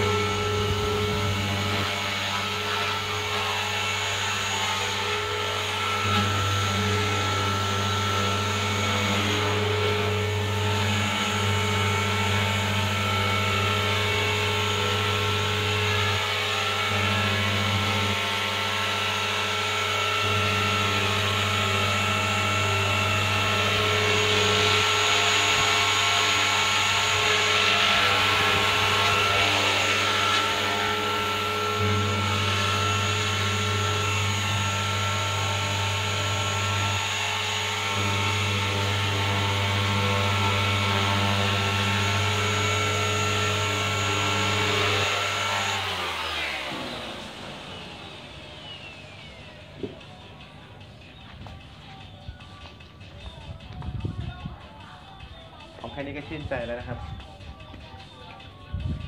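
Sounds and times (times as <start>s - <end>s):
rc helicopter motor whine: 0.0s - 59.0s.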